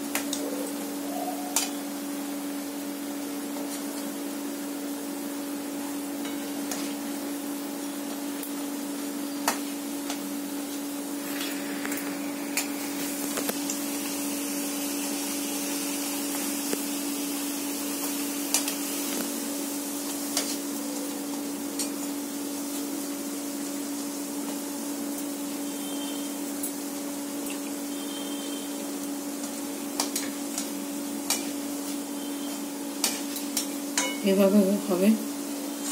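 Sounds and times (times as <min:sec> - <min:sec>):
oil sizzling: 0:00.0 - 0:35.9.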